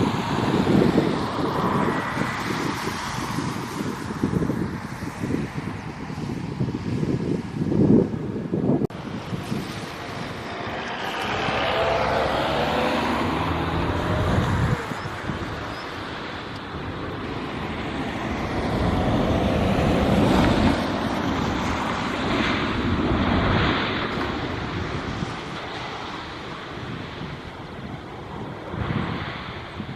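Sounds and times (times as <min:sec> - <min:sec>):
jet engines roaring past: 0:00.0 - 0:29.9
wind noise on microphone: 0:00.0 - 0:29.9.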